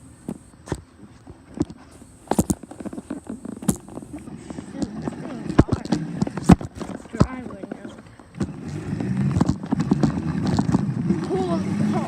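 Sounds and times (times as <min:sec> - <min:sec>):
camera being bumped thumps: 0:00.2 - 0:11.0.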